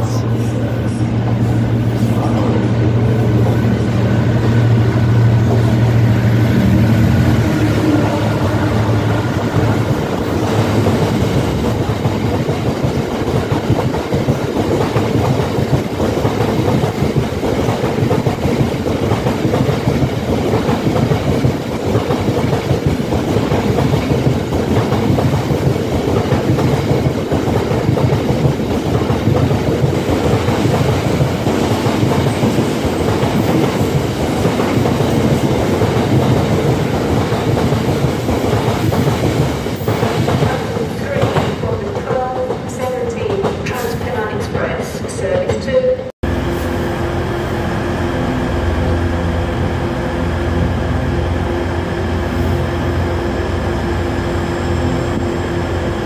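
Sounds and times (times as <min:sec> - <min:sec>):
diesel locomotive engine: 0:00.0 - 0:45.4, 0:46.0 - 0:56.0.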